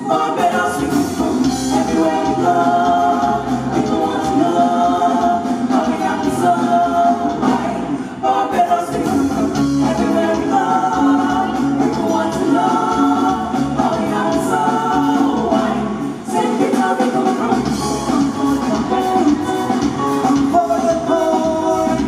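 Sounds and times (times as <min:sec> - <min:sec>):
band with guitars and drums: 0:00.0 - 0:22.0
women's vocal group singing: 0:00.0 - 0:22.0.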